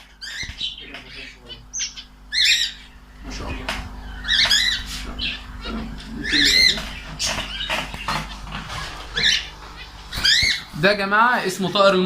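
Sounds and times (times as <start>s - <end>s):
myna bird calls: 0.0s - 10.8s.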